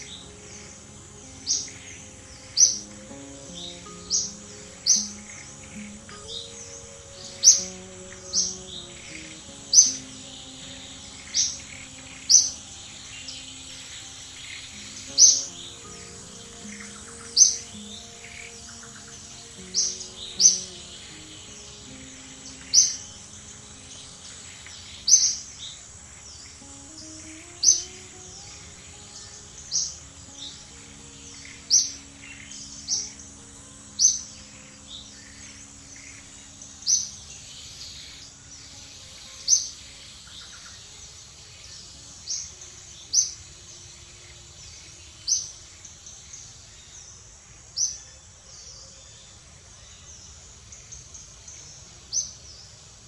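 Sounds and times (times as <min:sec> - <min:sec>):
faint low sustained tones: 0:00.0 - 0:47.1.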